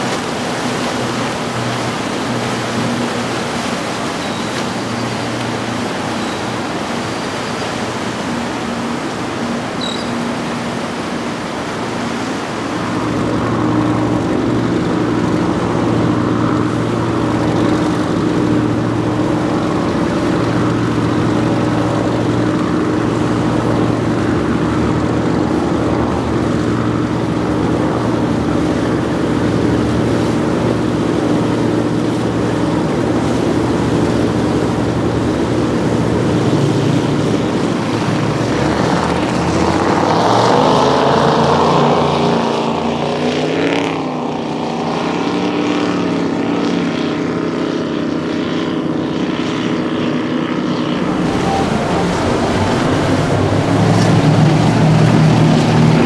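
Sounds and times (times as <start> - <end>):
powerboat engines droning: 0.0 - 56.0.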